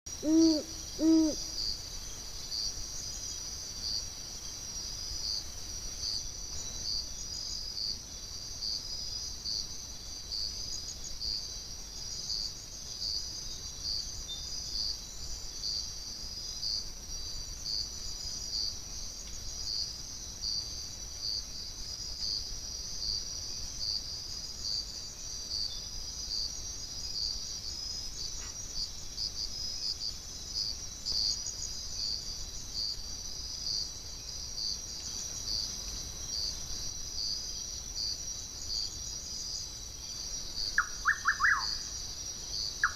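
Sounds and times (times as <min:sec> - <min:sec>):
insects trilling and chirping: 0:00.1 - 0:42.9.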